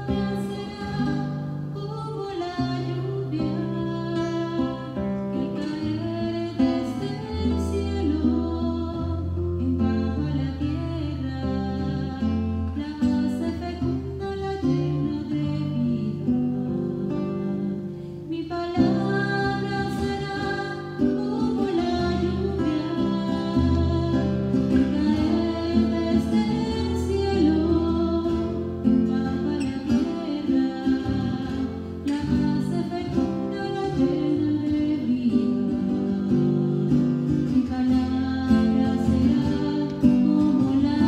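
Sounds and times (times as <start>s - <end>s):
acoustic guitar: 0.0s - 41.0s
woman singing: 0.0s - 41.0s.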